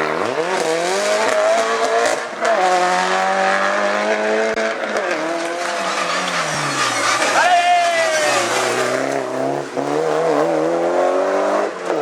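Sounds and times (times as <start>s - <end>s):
race car engine high revs: 0.0s - 12.0s.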